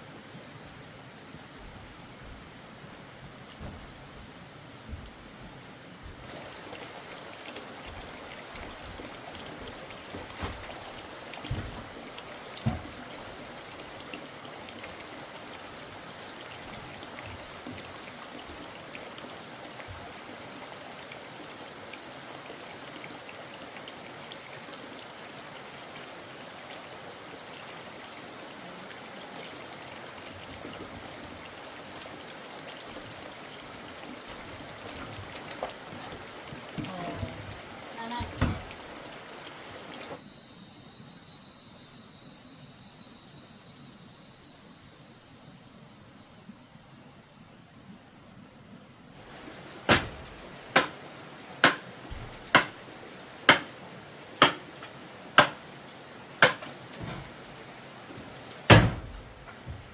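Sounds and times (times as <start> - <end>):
steady hiss of water: 0.0 - 59.9.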